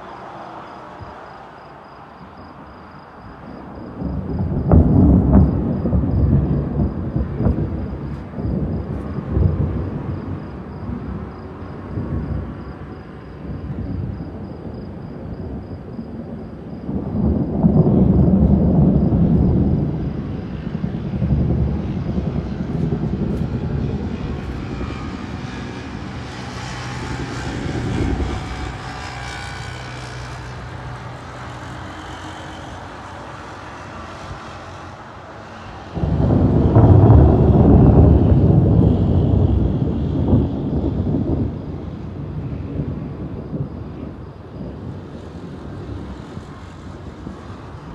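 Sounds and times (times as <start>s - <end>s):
thunder rumbling: 0.0s - 47.9s.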